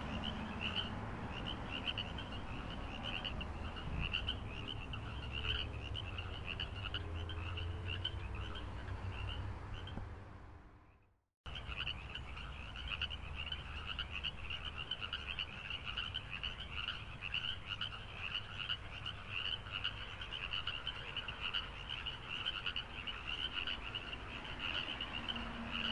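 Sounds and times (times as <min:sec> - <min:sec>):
frogs calling: 0:00.0 - 0:10.0, 0:10.9 - 0:25.9.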